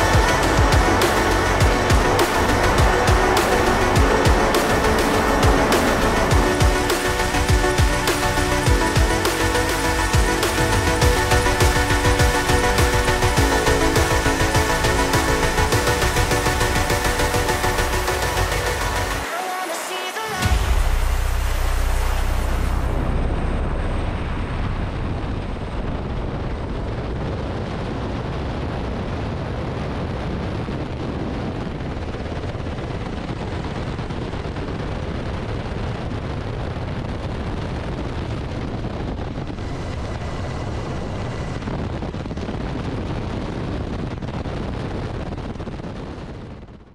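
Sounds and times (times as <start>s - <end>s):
helicopter rotor and turbine: 0.0s - 19.3s, 20.4s - 46.9s
rushing wind: 0.0s - 46.9s.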